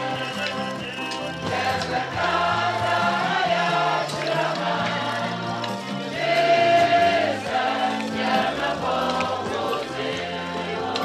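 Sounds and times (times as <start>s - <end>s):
choir singing a hymn: 0.0s - 11.0s
instrumental accompaniment: 0.0s - 11.0s.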